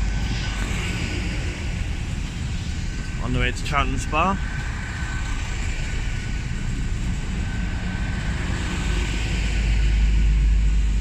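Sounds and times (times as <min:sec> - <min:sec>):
faint steady whine: 0:00.0 - 0:11.0
train engine and wheel rumble: 0:00.0 - 0:11.0.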